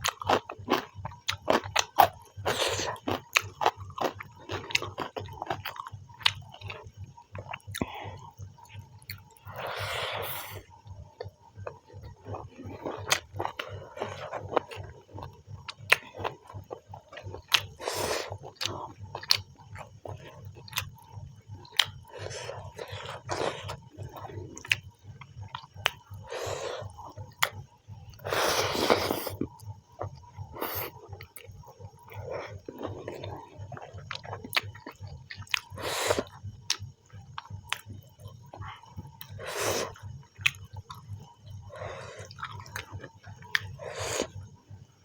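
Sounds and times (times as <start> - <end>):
chewing with wet clicks: 0.0 - 44.8.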